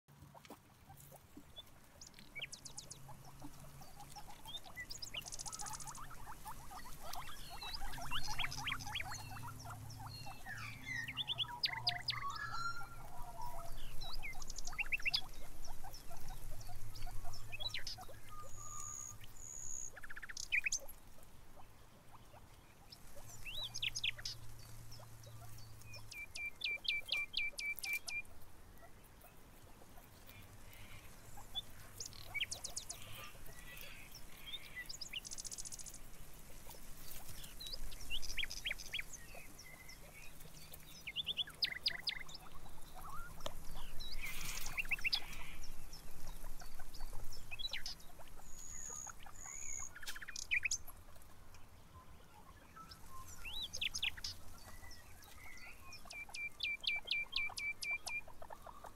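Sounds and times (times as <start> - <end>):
small birds chirping and twittering: 0.1 - 58.9.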